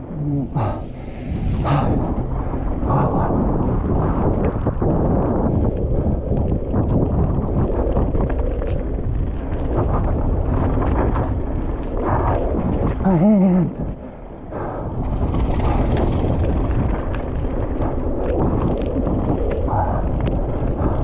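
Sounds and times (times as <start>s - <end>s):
tyre and trail rumble: 0.0s - 21.0s
wind rush on microphone: 0.0s - 21.0s
bike rattling: 0.6s - 13.0s, 14.7s - 21.0s.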